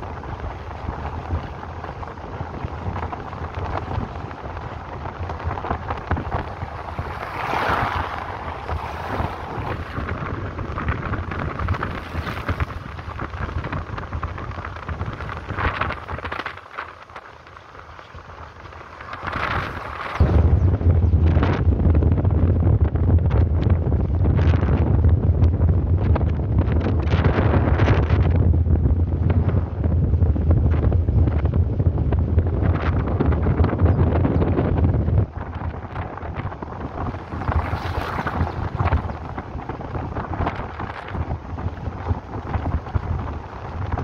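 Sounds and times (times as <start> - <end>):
tyres rumbling on cobblestones: 0.0 - 44.0
wind buffeting microphone: 0.0 - 44.0.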